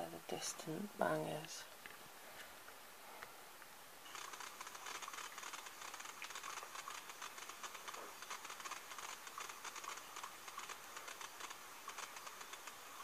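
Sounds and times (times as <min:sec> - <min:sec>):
hiss with crackling clicks: 0:00.6 - 0:13.0.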